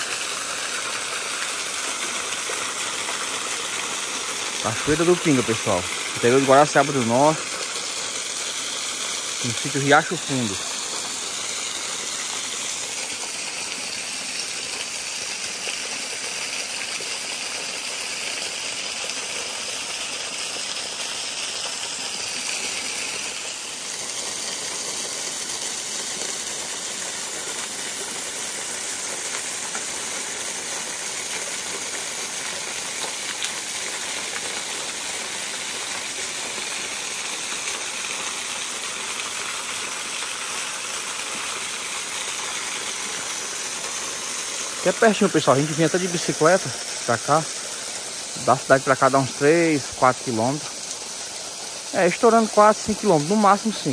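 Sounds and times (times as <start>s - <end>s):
small waterfall splashing: 0.0s - 53.9s.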